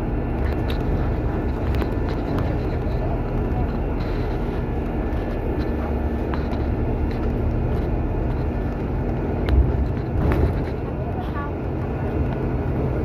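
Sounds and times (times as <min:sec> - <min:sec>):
bus rumbling in motion: 0:00.0 - 0:13.0.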